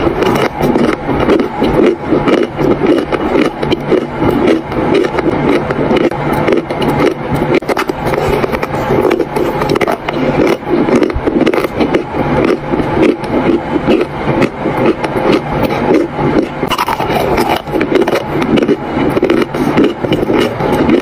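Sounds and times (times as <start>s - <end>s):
chewing chalk crunching: 0.0s - 21.0s.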